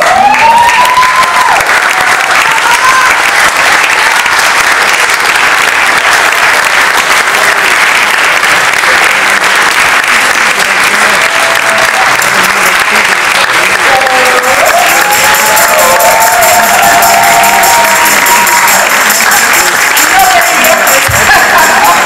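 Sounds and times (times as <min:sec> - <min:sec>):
audience cheering: 0:00.0 - 0:09.5, 0:10.2 - 0:22.0
audience applauding: 0:00.0 - 0:22.0.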